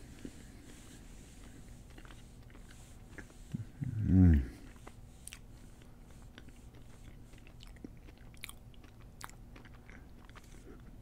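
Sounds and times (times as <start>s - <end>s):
faint chewing with crunches: 0.0s - 11.0s.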